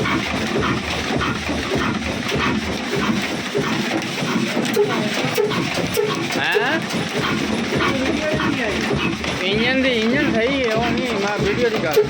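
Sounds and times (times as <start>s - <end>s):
diesel engine clattering: 0.0s - 12.0s.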